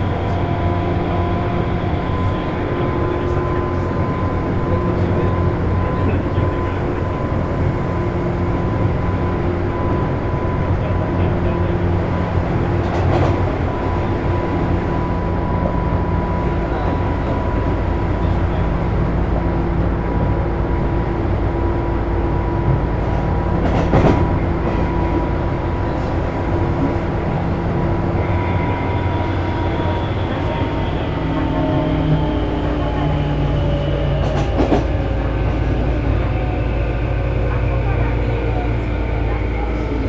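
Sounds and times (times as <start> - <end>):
train running: 0.0 - 40.0.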